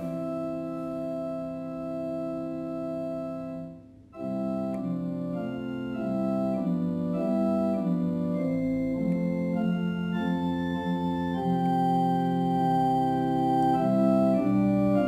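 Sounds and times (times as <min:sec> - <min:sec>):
organ playing slow hymn chords: 0:00.0 - 0:15.0.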